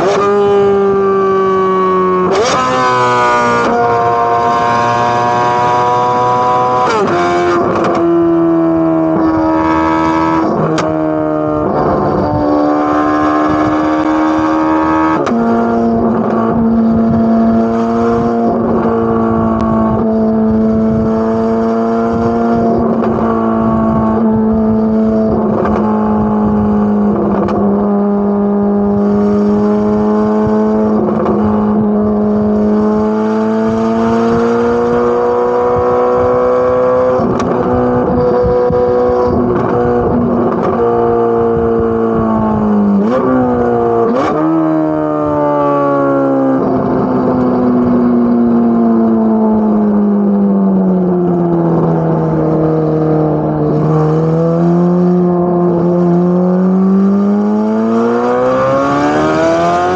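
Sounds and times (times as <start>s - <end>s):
sports car engine accelerating: 0.0s - 59.9s.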